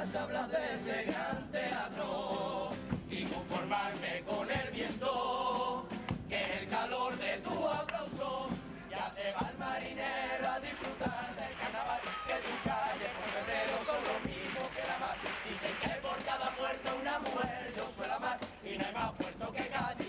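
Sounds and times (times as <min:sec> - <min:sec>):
young voices singing in chorus: 0:00.0 - 0:20.0.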